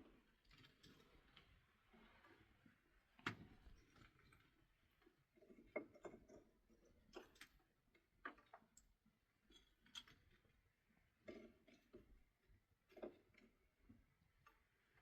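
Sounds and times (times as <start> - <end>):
faint irregular clicks and taps: 0.0 - 15.0.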